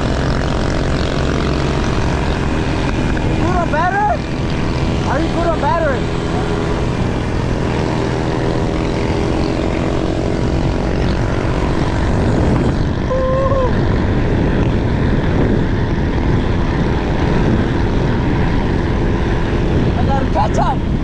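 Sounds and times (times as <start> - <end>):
motor drone: 0.0 - 21.0
wind rushing over microphone: 0.0 - 21.0.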